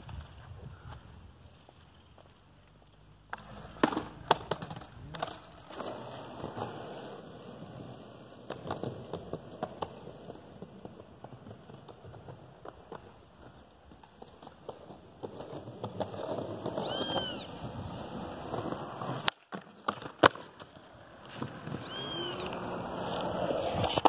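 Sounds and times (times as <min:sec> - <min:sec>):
skateboard rolling: 0:02.2 - 0:24.0
skateboard clacking on ground: 0:03.3 - 0:24.0.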